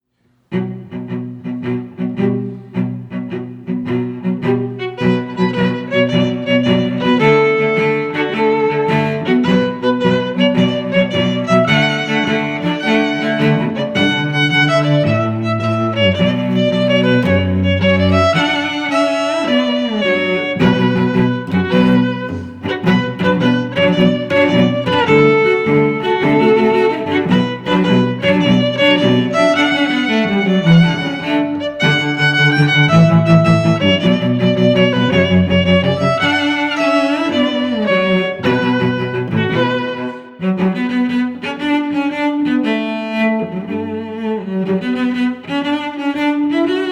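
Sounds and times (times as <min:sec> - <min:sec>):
violin and cello melody: 0:00.5 - 0:46.9.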